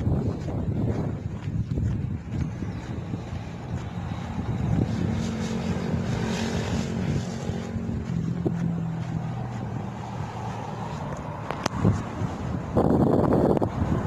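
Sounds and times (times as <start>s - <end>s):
small engine running: 0.0s - 13.9s
wind buffeting microphone: 0.0s - 14.0s.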